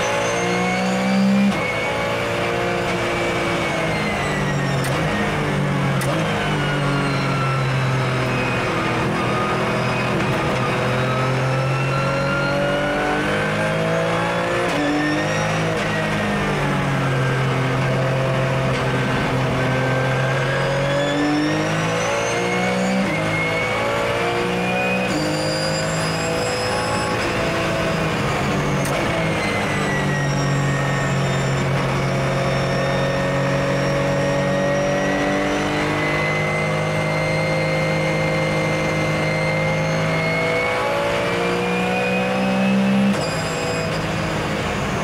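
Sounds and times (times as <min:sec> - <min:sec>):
race car engine with gear shifts: 0:00.0 - 0:45.0.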